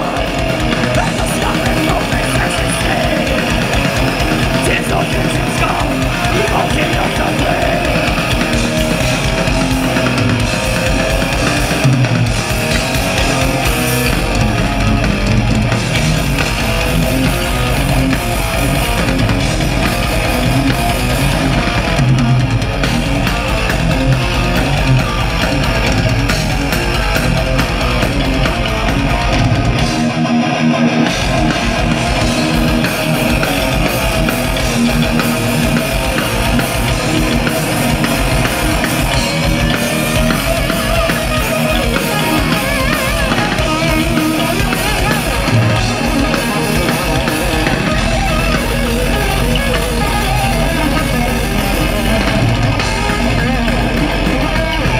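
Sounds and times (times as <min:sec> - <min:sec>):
bass guitar: 0:00.0 - 0:54.9
distorted electric guitars: 0:00.0 - 0:54.9
fast drum kit: 0:00.0 - 0:54.9.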